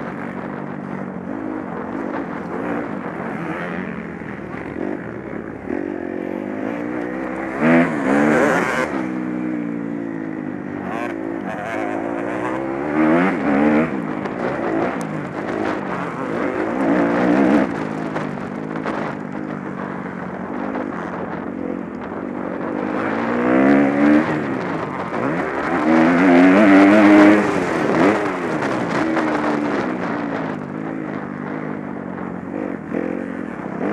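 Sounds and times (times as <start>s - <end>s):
motocross bike engines revving: 0.0s - 33.9s.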